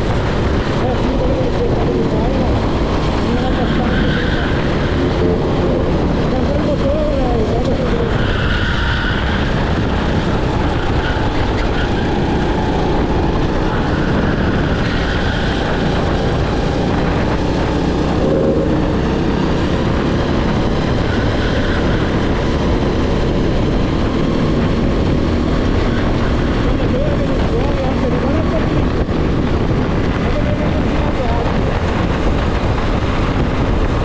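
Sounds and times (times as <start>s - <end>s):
kart engine revving: 0.0s - 34.0s
wind rush on microphone: 0.0s - 34.0s.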